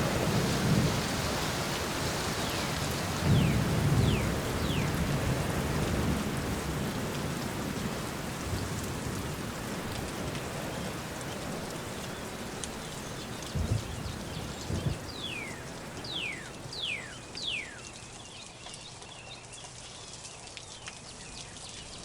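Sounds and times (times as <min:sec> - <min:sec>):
low rumble of thunder: 0:00.0 - 0:17.6
steady rain falling: 0:00.0 - 0:22.0.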